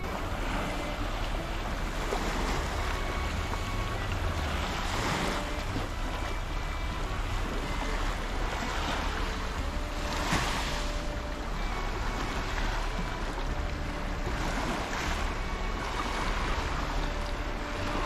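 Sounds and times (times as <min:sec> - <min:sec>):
sea waves washing onto shore: 0:00.0 - 0:18.0
wind rumbling on microphone: 0:00.0 - 0:18.0.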